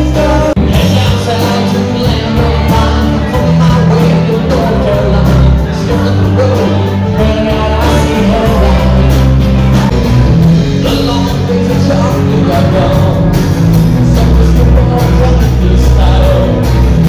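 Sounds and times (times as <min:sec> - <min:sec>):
live rock band: 0:00.0 - 0:17.0
man singing: 0:00.0 - 0:17.0.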